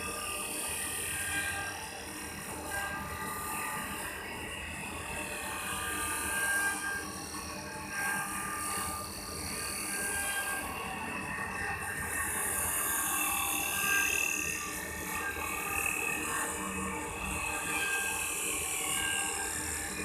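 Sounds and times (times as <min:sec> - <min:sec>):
wood lathe whirring and whining: 0:00.0 - 0:20.0.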